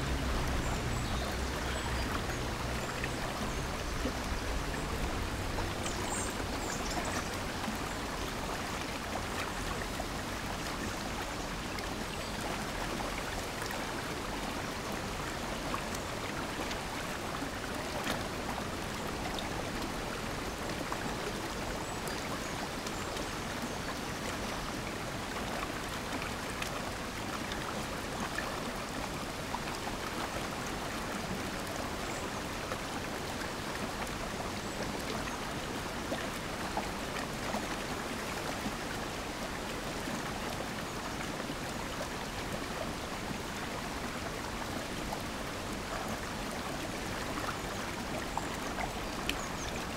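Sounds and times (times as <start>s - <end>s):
stream rushing over stones: 0.0s - 49.9s.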